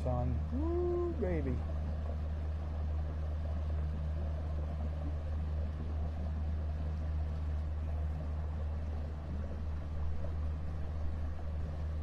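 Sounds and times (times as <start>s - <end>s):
boat engine droning: 0.0s - 12.0s
water and air noise: 0.0s - 12.0s.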